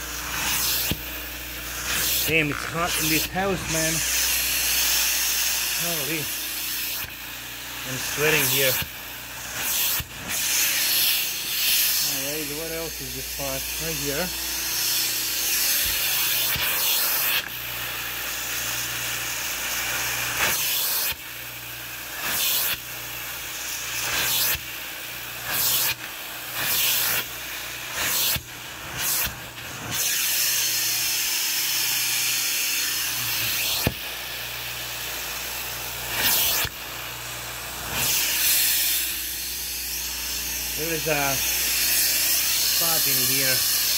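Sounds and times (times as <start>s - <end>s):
carpet extractor suction hiss: 0.0s - 43.9s.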